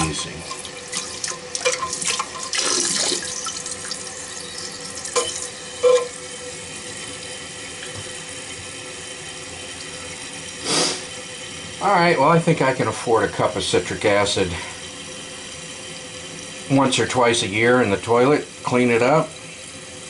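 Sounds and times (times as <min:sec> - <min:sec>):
water refilling toilet tank: 0:00.0 - 0:20.0.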